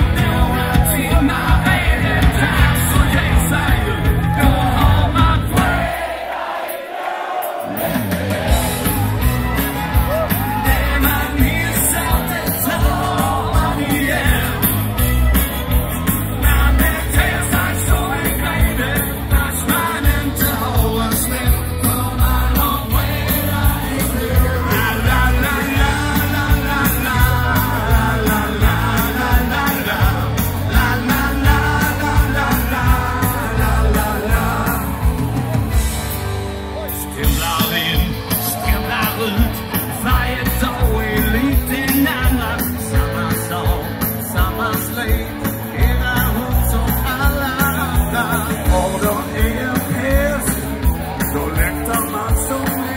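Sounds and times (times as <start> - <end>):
crowd yelling: 0.0 - 52.9
live rock music: 0.0 - 52.9.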